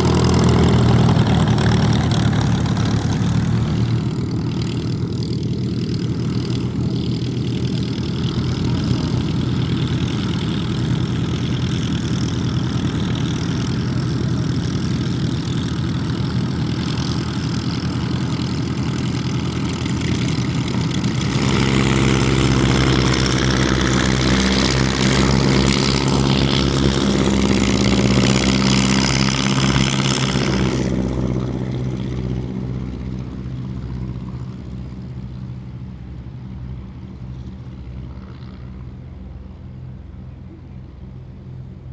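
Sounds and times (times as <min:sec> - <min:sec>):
light aircraft engine and propeller: 0:00.0 - 0:41.9.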